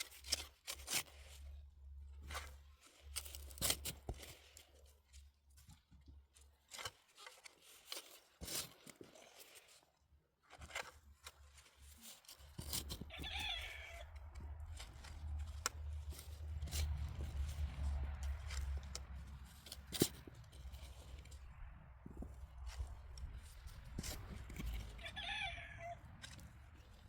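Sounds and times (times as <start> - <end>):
soil and plants rustling and scraping: 0.0 - 27.0.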